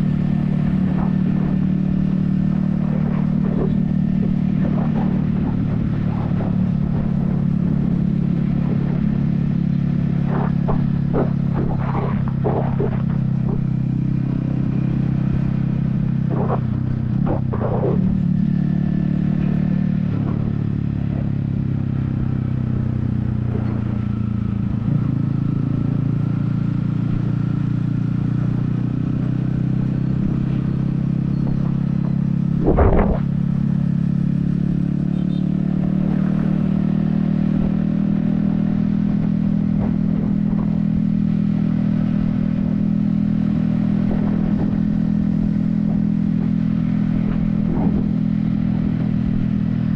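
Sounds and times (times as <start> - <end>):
motorcycle engine running: 0.0 - 49.9
wind rumble on microphone: 0.0 - 49.9.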